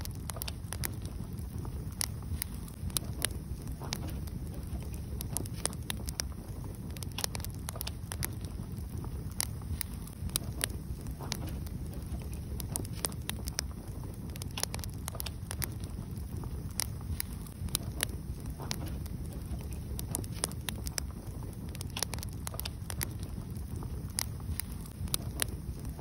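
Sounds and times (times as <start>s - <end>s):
fire low rumble: 0.0s - 26.0s
wood fire crackling and popping: 0.0s - 26.0s.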